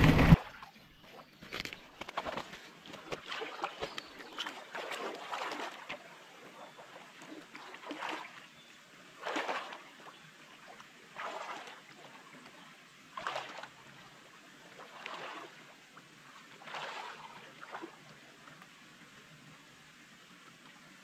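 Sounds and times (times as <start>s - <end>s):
muddy water splashing: 0.0s - 18.6s.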